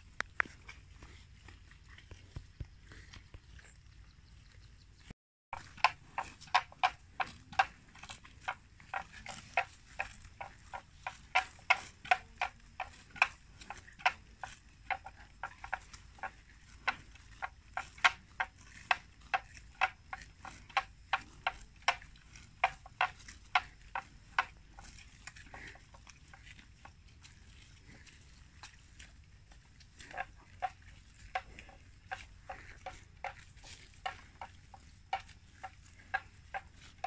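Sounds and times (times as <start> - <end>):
buffalo tearing grass: 5.6 - 37.0.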